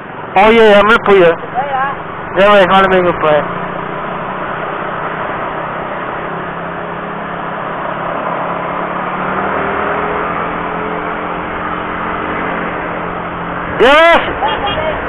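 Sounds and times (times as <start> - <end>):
other traffic: 0.0 - 15.0
wind and road noise: 0.0 - 15.0.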